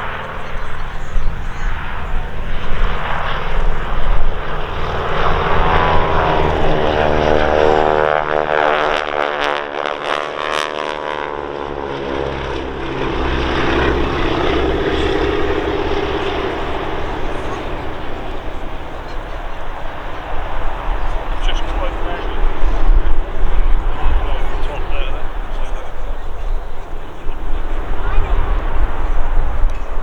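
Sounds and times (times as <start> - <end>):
propeller plane flying past: 0.0 - 30.0.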